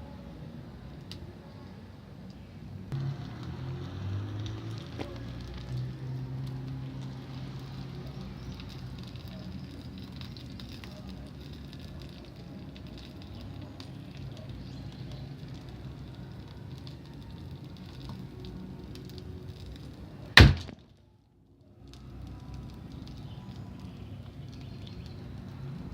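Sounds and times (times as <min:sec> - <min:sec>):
bonfire rushing and crackling: 0:00.7 - 0:25.9.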